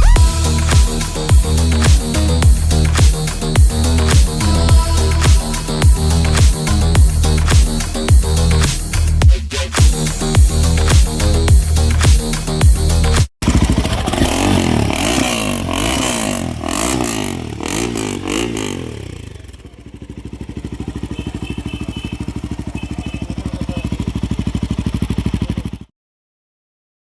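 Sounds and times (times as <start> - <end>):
motorcycle engine revving and idling: 0.0 - 9.3, 9.9 - 25.9.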